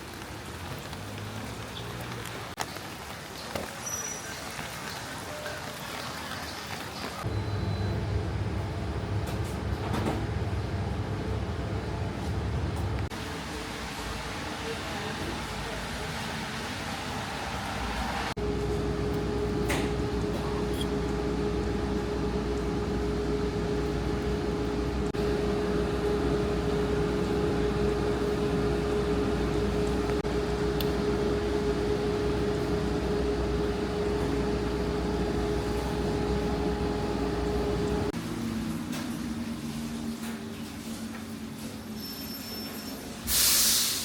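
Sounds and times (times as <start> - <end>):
mechanical hum: 7.2 - 43.6.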